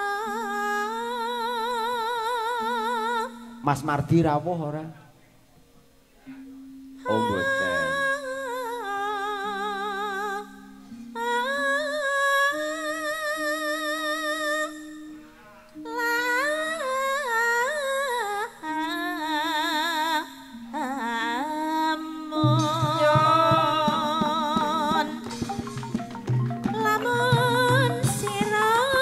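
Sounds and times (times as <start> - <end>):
woman singing with vibrato: 0.0 - 3.7, 7.0 - 15.1, 15.8 - 29.0
low held accompanying tone: 0.0 - 17.8, 20.5 - 29.0.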